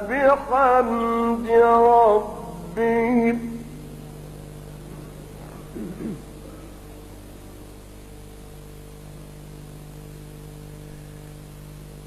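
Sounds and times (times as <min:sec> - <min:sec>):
electrical hum: 0:00.0 - 0:12.0
steady hiss: 0:00.0 - 0:12.0.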